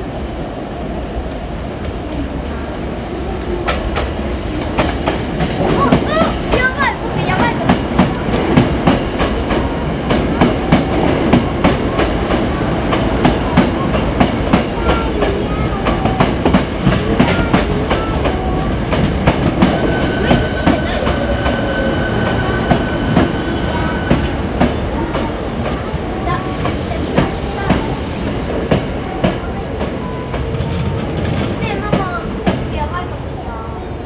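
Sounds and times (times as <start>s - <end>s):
train rumble: 0.0s - 34.0s
train wheels clacking over joints: 3.6s - 33.2s.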